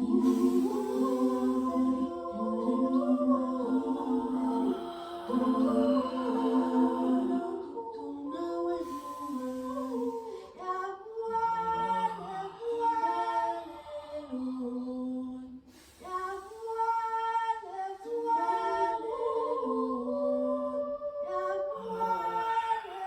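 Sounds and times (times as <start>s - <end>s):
woman singing wordless chant: 0.0s - 23.0s.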